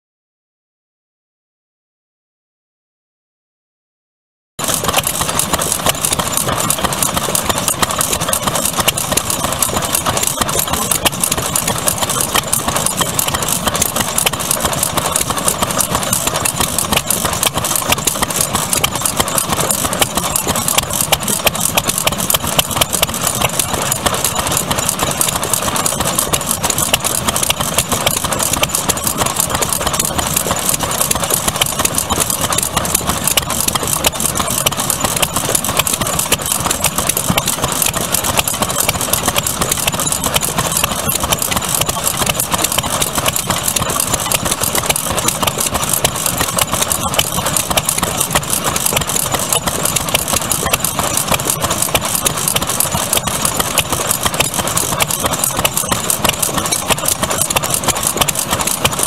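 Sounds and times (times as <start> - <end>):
stationary engines running: 4.6 - 59.0.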